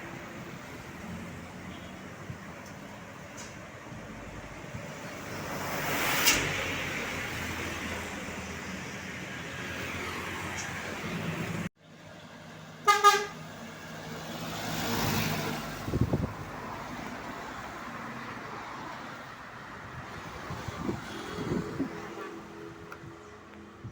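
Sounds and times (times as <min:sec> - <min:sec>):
road traffic passing: 0:00.0 - 0:23.9.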